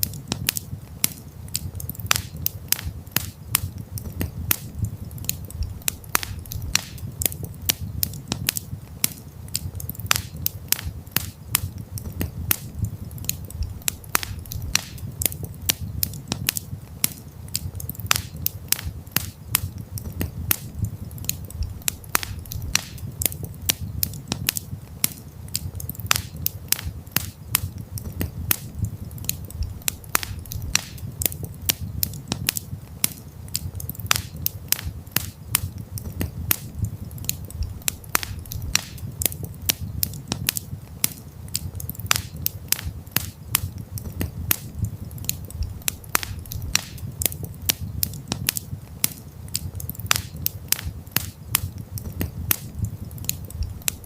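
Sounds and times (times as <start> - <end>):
campfire popping and snapping: 0.0 - 54.0
low rumble of flames: 0.0 - 54.0.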